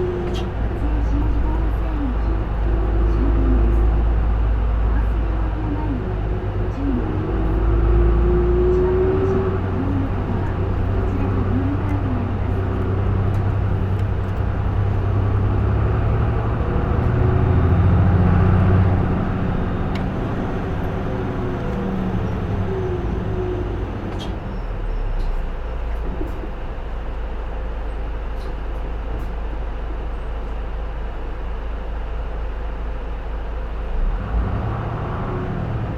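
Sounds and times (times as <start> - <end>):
bus diesel engine: 0.0 - 35.9
road noise: 0.0 - 35.9.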